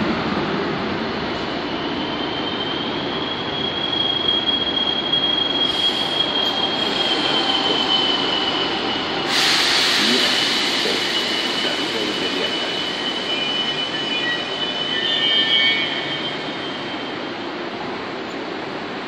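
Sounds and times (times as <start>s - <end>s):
train wheels rumbling on rail: 0.0s - 19.0s
high steady wheel squeal: 1.4s - 17.6s.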